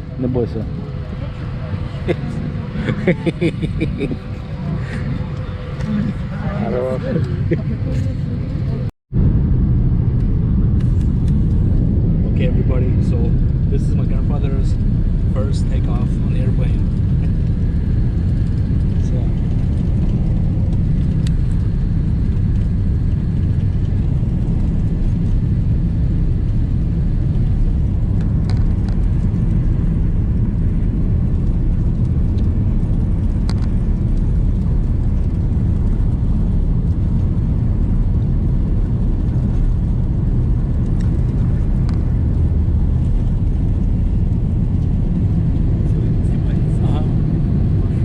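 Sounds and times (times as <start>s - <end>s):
jet engines rumbling: 0.0s - 48.0s
rush of aircraft: 0.0s - 48.0s.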